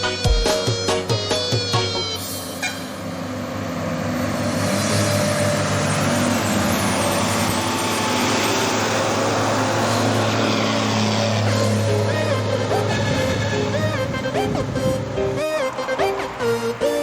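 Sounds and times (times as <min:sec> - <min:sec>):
road noise: 0:00.0 - 0:17.0
truck diesel engine running: 0:00.0 - 0:17.0.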